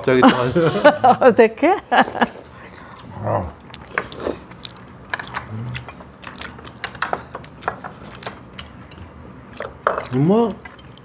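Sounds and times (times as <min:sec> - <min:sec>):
people chewing and crunching food: 0:02.0 - 0:11.0.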